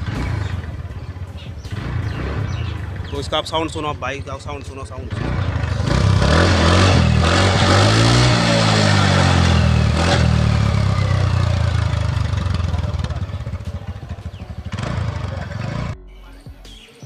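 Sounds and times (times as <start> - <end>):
scooter engine revving: 0.0 - 16.0.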